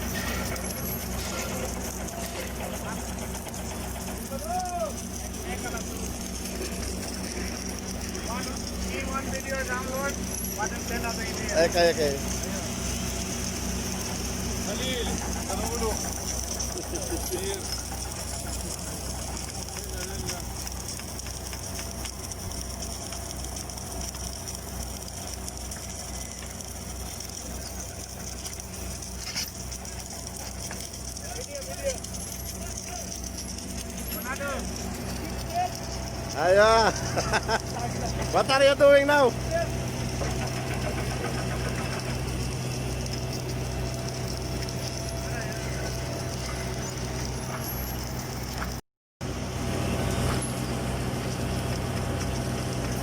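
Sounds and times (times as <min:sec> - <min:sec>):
welding tractor whirring and humming: 0:00.0 - 0:53.0.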